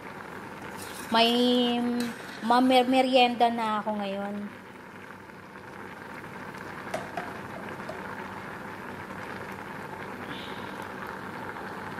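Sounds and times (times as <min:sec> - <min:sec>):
pot boiling with bubbling: 0:00.0 - 0:11.9.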